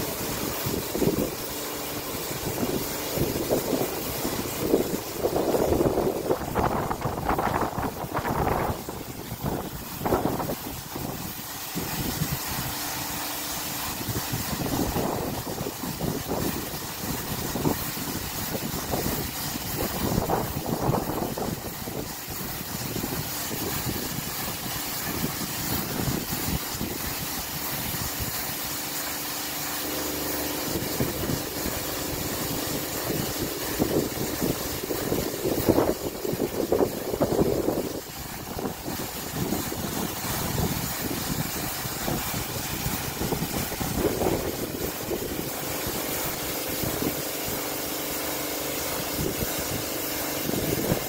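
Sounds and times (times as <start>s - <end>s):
car wash brushes spinning: 0.0s - 51.0s
steady mechanical hum: 0.0s - 51.0s
water spraying: 0.0s - 51.0s.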